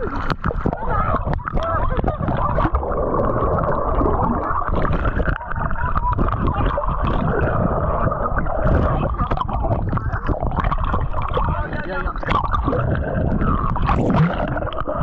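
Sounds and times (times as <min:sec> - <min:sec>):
muffled churning water: 0:00.0 - 0:15.0
small knocks and gurgles: 0:00.0 - 0:15.0.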